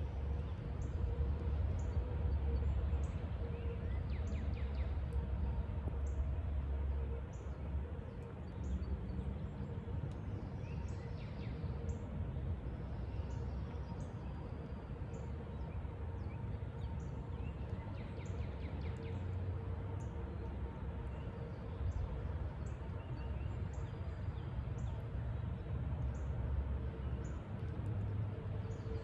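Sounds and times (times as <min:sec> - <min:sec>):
faint steady hum: 0:00.0 - 0:29.0
steady low rumble: 0:00.0 - 0:29.0.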